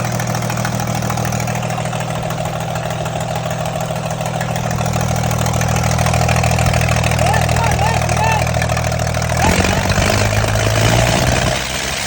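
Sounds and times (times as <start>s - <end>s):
heavy engine idling and misfiring: 0.0s - 12.0s.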